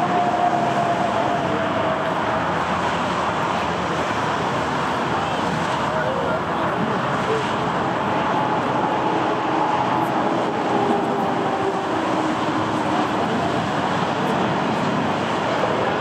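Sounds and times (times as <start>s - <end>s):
jet engines climbing: 0.0s - 16.0s.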